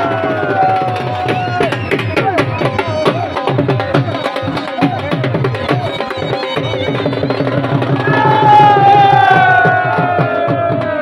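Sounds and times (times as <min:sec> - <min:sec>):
music with fast drum beat: 0:00.0 - 0:11.0.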